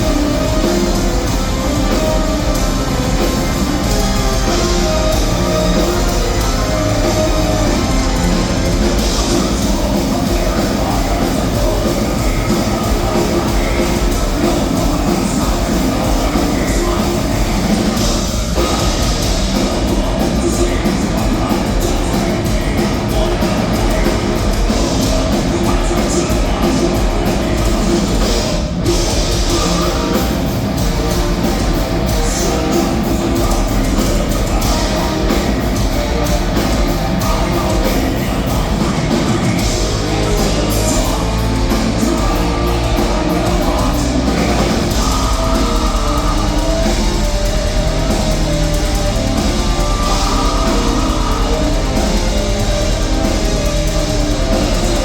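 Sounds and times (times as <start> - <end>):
distorted electric guitars: 0.0 - 55.0
fast drum kit: 0.0 - 55.0
vocals: 0.0 - 55.0.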